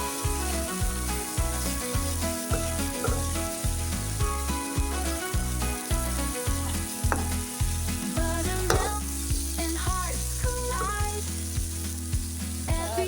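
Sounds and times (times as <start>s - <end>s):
background song with beat: 0.0s - 13.0s
fried rice sizzling in a pan: 0.0s - 13.0s.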